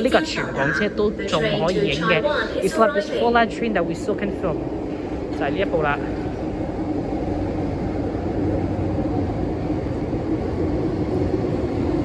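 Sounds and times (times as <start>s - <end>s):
train running with low hum: 0.0s - 12.0s.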